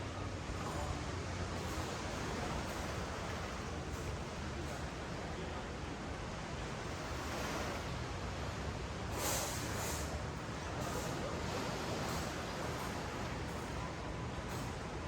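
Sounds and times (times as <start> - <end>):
ocean surf on sand: 0.4 - 5.4, 6.0 - 14.0.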